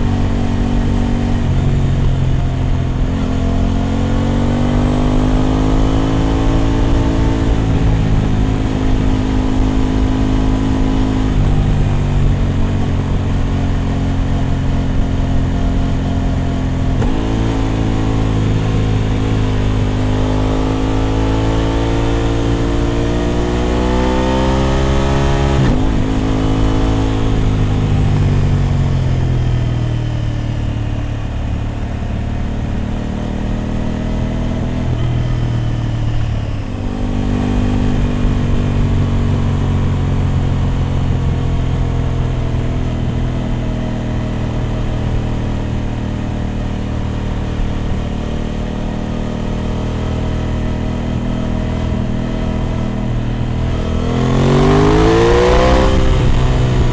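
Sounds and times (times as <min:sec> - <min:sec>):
motorbike engine revving: 0:00.0 - 0:30.5, 0:31.3 - 0:56.9.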